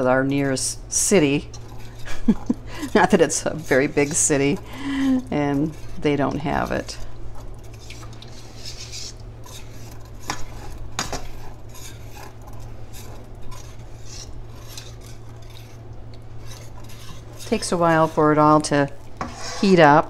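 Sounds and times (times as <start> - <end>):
steady low hum: 0.0 - 20.0
whisk scraping metal pot: 0.0 - 20.0.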